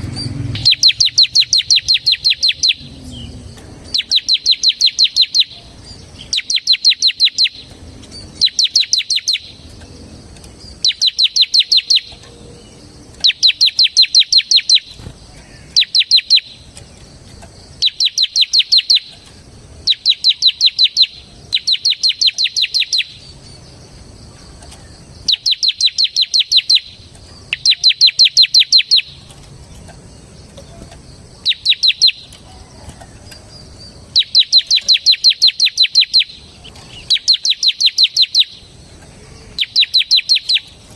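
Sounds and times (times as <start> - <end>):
bird singing rapid rattling notes: 0.0 - 40.9.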